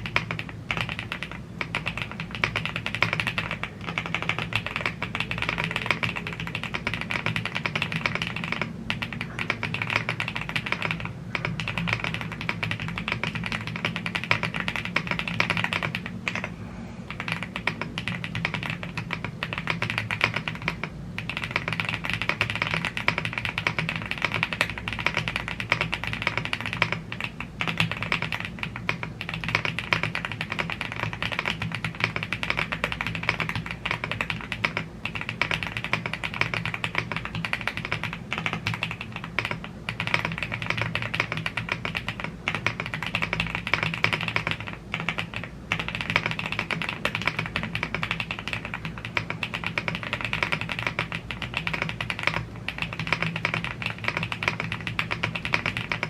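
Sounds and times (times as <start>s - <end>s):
mechanical keyboard typing: 0.0s - 16.5s, 17.1s - 56.0s.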